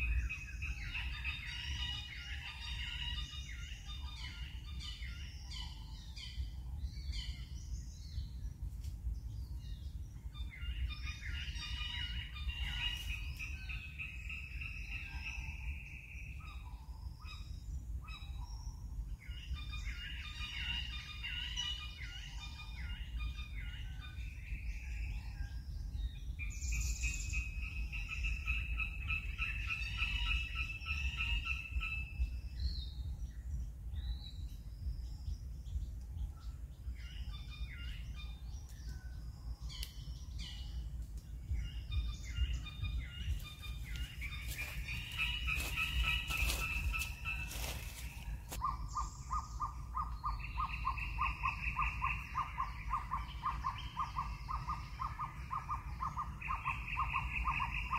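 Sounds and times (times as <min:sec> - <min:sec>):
birds chirping and calling: 0:00.0 - 0:57.9
steady low rumble: 0:00.0 - 0:57.9.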